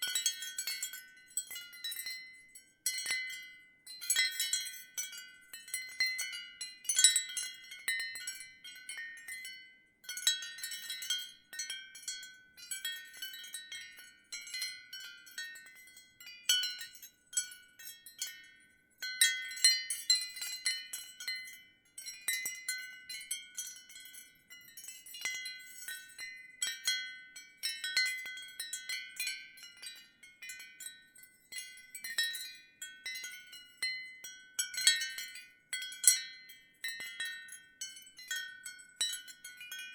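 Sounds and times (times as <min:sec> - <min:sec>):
ceramic wind chimes clinking: 0:00.0 - 0:39.9.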